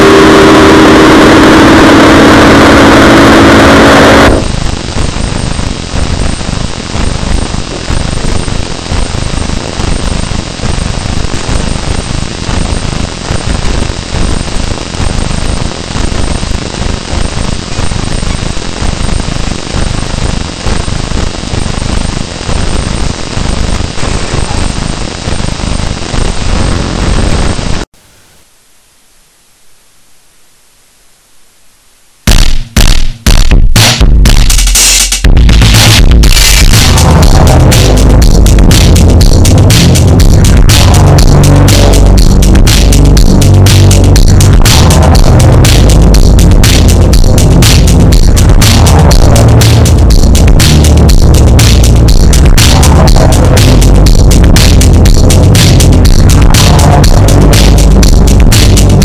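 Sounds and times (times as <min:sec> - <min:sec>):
harsh distorted noise music: 0:00.0 - 0:27.9, 0:32.3 - 0:59.0.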